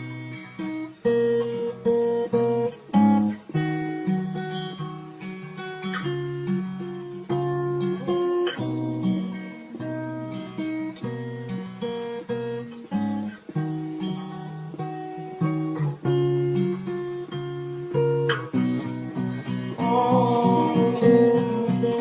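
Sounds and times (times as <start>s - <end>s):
slowed acoustic guitar chords: 0.0s - 22.0s.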